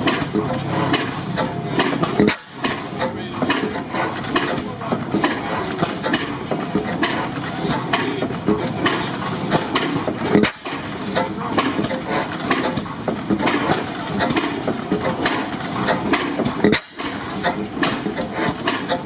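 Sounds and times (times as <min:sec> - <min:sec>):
stationary gas engines clattering: 0:00.0 - 0:19.0.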